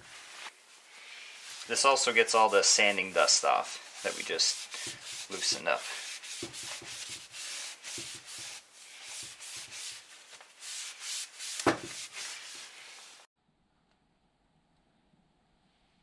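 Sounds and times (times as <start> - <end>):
cloth rubbing on leather: 0.0 - 13.3.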